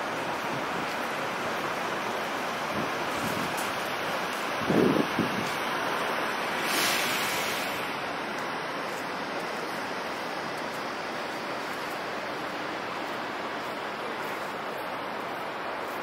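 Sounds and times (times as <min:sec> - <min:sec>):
rain hissing on wet street: 0:00.0 - 0:16.0.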